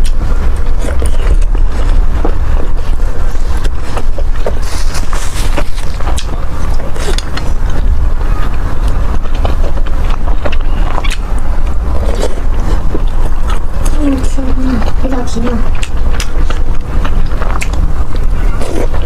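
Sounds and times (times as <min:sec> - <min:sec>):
low rumble: 0:00.0 - 0:19.0
wet chewing clicks: 0:00.0 - 0:19.0.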